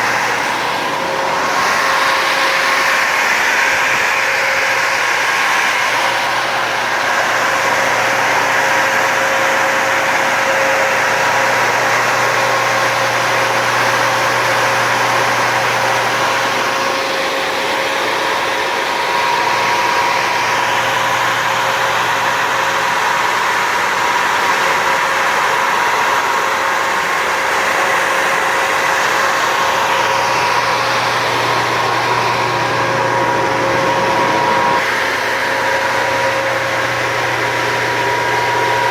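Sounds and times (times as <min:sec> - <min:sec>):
generator engine running: 0:00.0 - 0:38.9
steady whine: 0:00.0 - 0:38.9.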